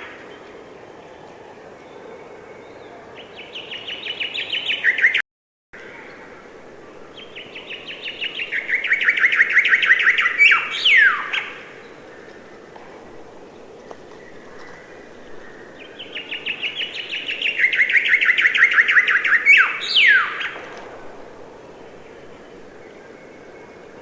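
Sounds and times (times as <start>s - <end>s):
songbird chirping song: 0.0s - 5.2s, 5.8s - 24.0s.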